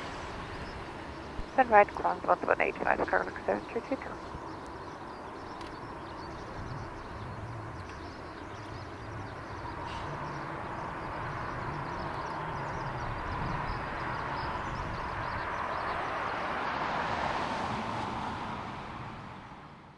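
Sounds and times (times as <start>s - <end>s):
jet engines taxiing: 0.0s - 16.8s.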